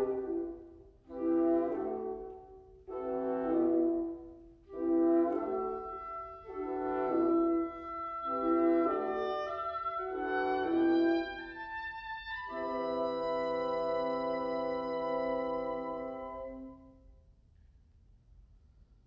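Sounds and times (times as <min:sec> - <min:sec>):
woodwind quintet playing chords: 0:00.0 - 0:17.1.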